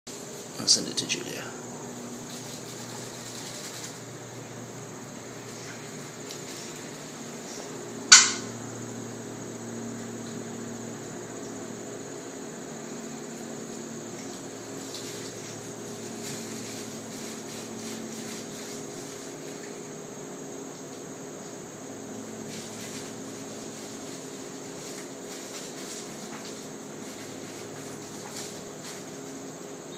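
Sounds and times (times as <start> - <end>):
room hum and hiss: 0.1 - 29.9.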